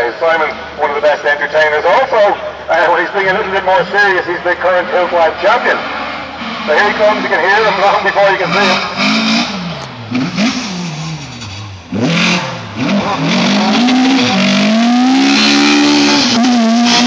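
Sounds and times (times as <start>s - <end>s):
car engine revving: 2.4s - 17.0s.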